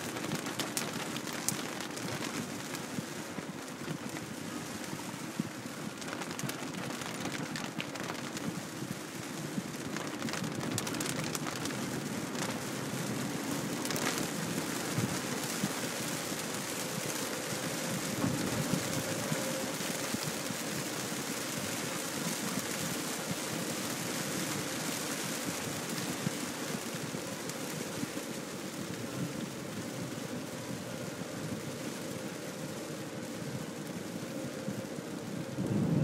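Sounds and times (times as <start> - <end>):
heavy rain on a car: 0.0 - 36.0
tyres hissing on wet road: 0.0 - 36.0.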